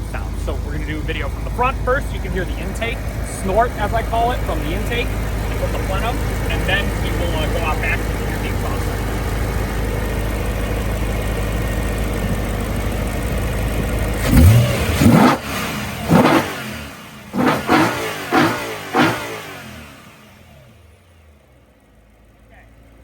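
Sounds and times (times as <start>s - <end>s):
engine throttle blips: 0.0s - 22.8s
car engine idling: 0.0s - 23.0s.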